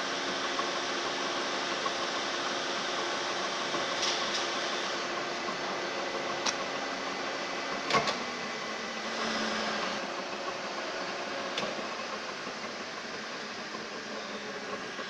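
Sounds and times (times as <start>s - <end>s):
milling machine running: 0.0s - 15.0s.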